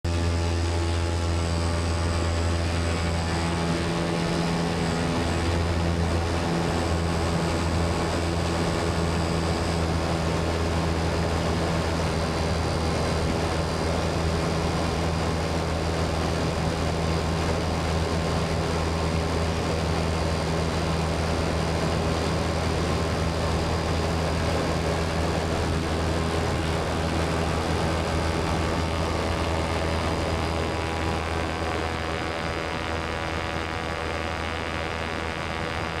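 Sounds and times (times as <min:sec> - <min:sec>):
propeller drone: 0:00.0 - 0:36.0.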